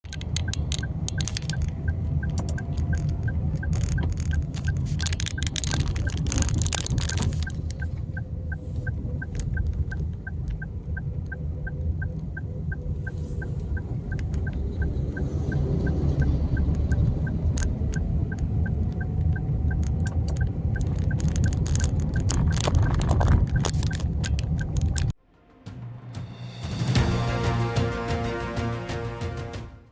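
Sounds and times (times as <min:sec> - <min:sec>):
faint shifting engine tones: 0:00.0 - 0:25.2
low rumble of traffic: 0:00.0 - 0:25.2
regular high tick: 0:00.0 - 0:25.2
scattered clicks: 0:00.0 - 0:25.2.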